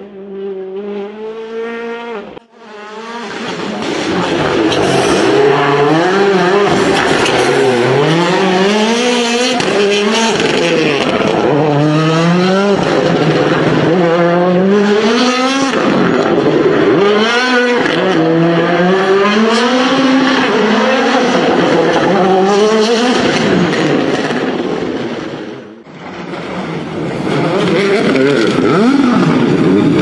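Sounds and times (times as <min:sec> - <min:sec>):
car engine accelerating hard: 0:00.0 - 0:24.9, 0:26.3 - 0:30.0.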